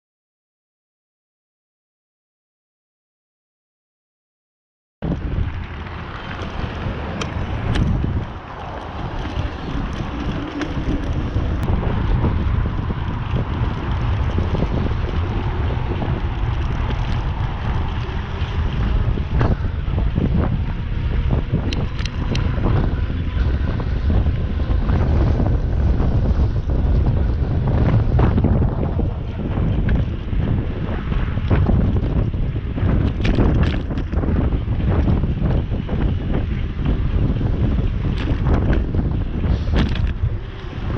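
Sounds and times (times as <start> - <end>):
wind buffeting microphone: 5.0 - 40.9.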